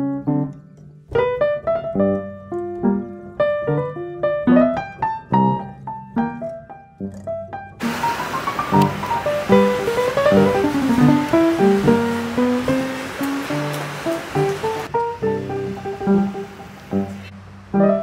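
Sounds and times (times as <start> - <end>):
light instrumental keyboard music: 0.0 - 18.0.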